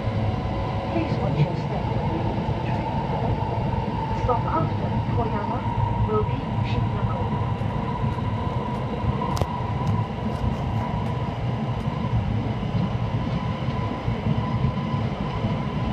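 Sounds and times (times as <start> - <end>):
train rumble: 0.0 - 15.9.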